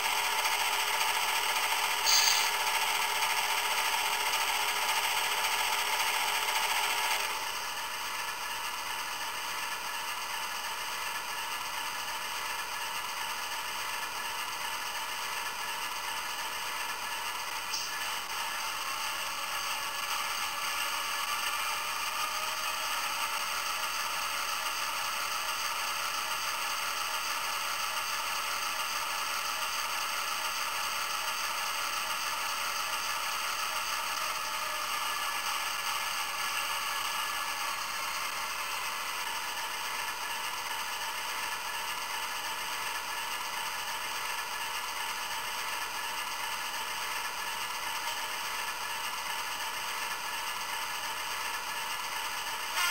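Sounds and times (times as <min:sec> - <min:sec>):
diesel engine sound from small speaker: 0:00.0 - 0:52.9.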